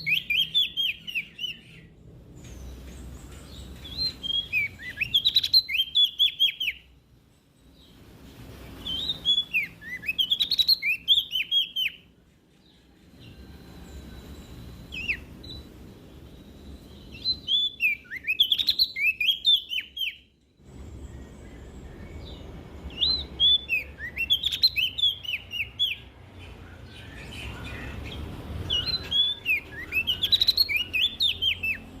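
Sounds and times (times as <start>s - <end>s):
leaf warbler singing: 0.0s - 32.0s.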